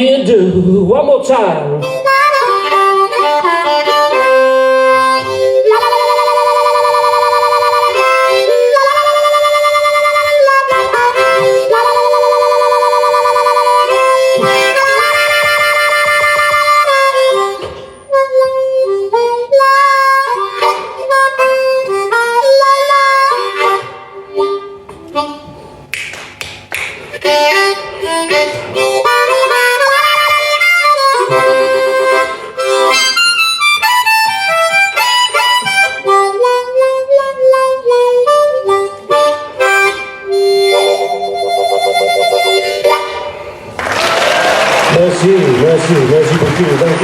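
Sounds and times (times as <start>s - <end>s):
blues harmonica playing: 1.8s - 25.9s, 27.1s - 43.8s.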